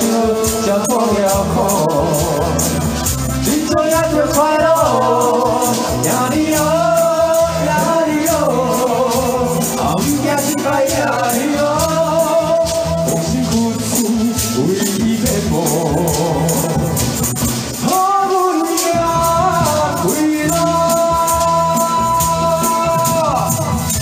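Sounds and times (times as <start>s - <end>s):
man singing into microphone: 0.0s - 17.2s, 17.8s - 24.0s
hand rattles shaking: 0.0s - 24.0s
pop backing track: 0.0s - 24.0s.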